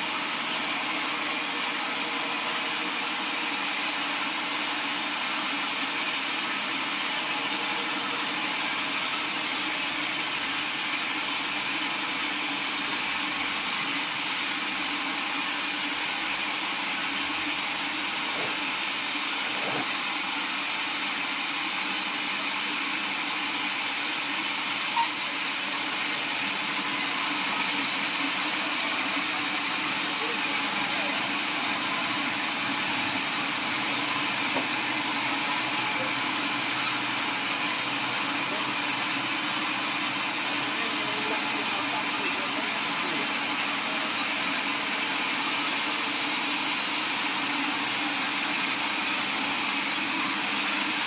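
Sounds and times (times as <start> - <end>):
sawmill machinery running: 0.0 - 51.0.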